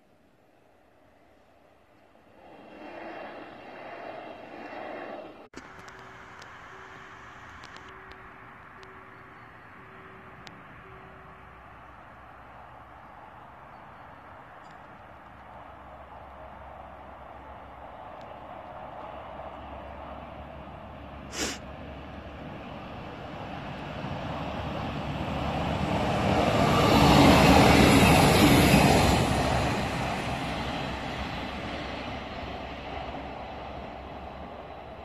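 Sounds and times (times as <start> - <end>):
diesel railcar passing: 0.0 - 35.0.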